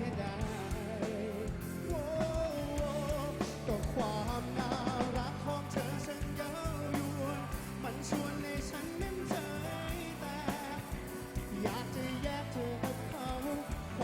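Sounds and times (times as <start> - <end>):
pop-rock band playing live: 0.0 - 14.0.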